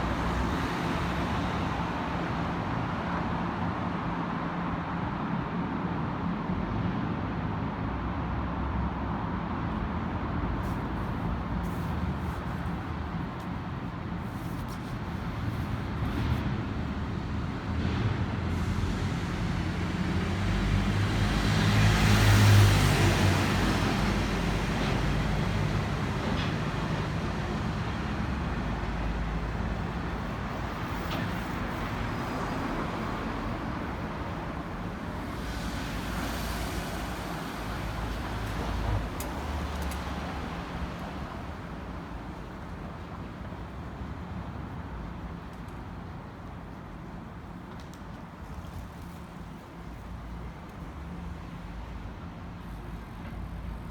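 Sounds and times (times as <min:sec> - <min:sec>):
road traffic noise: 0:00.0 - 0:53.9.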